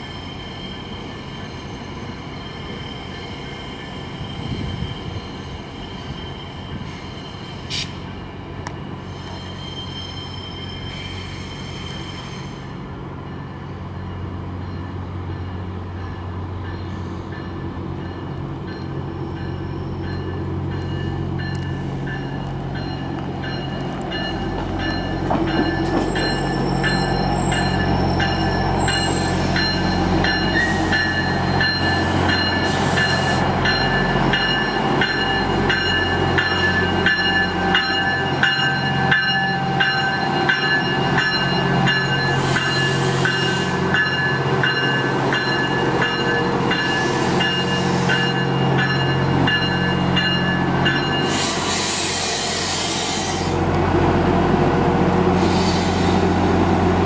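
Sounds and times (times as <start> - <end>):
diesel train engine humming: 11.2 - 57.0.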